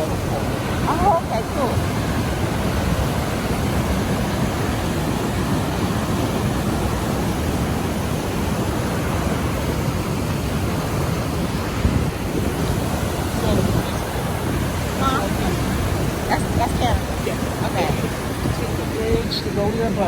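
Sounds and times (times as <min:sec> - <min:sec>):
water rushing over falls: 0:00.0 - 0:20.0.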